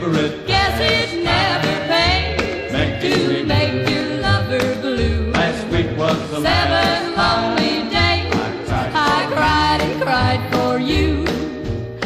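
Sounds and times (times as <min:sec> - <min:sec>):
sung pop song with beat: 0:00.0 - 0:12.0.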